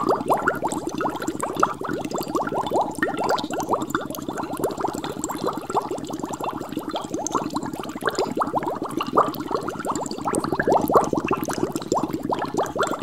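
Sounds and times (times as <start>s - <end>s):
air bubbles in water: 0.0s - 13.0s.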